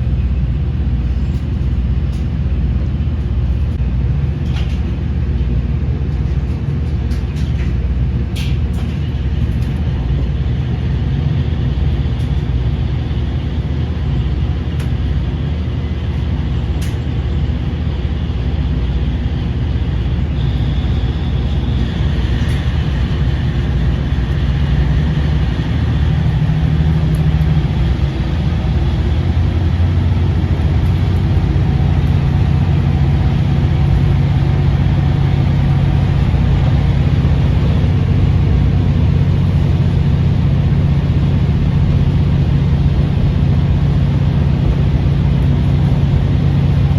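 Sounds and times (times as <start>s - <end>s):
diesel engine drone: 0.0s - 46.9s
train rumble: 0.0s - 46.9s
thin whine: 8.8s - 46.9s.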